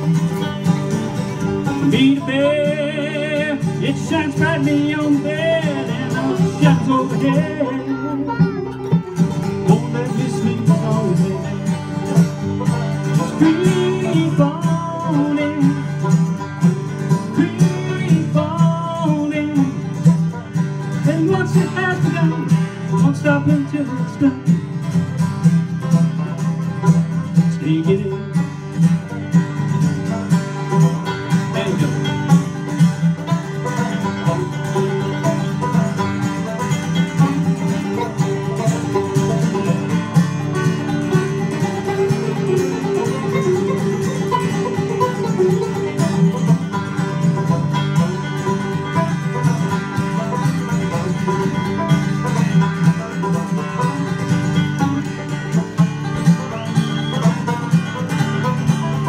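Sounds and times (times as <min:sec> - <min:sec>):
banjo picking: 0:00.0 - 0:59.0
strummed acoustic guitar: 0:00.0 - 0:59.0.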